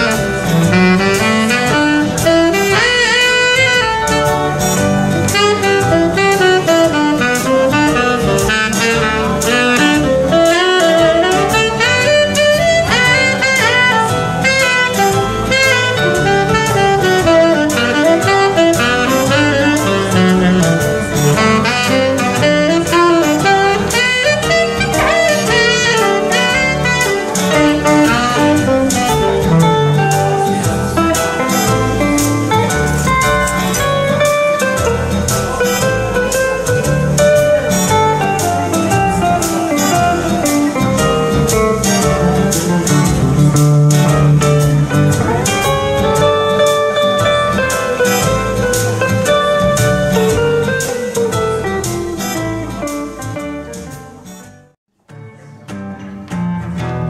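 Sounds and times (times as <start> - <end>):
saxophone melody: 0.0 - 54.7
electric guitar: 0.0 - 57.0
keyboard: 0.0 - 57.0.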